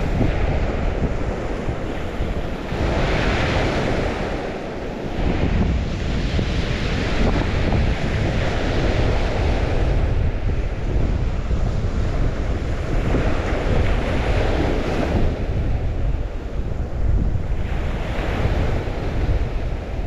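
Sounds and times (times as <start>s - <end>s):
waves washing ashore: 0.0s - 20.0s
wind buffeting microphone: 0.0s - 20.0s.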